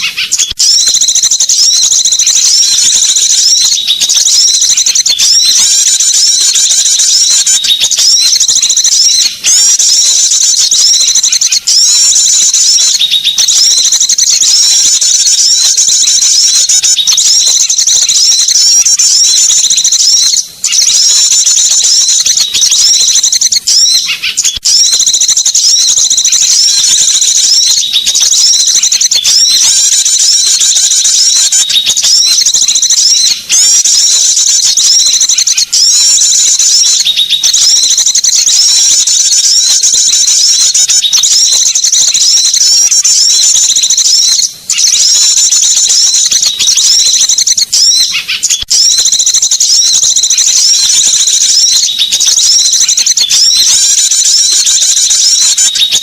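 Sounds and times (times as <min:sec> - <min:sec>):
songbirds chattering and trilling: 0:00.0 - 0:56.0.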